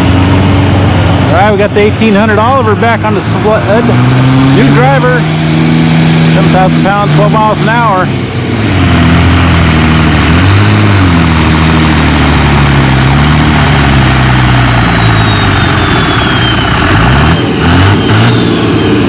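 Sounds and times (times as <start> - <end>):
tractor engine under heavy load: 0.0 - 19.0.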